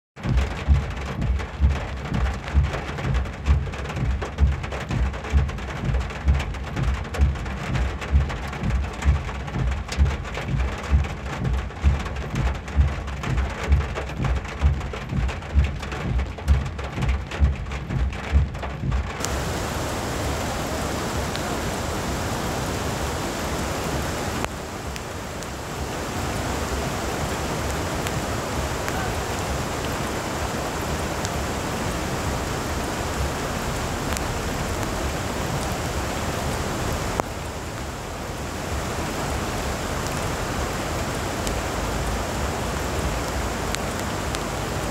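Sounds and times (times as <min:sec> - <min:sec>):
low thumping: 0:00.2 - 0:38.1
heavy rain: 0:00.2 - 0:44.9
rushing floodwater: 0:00.2 - 0:44.9.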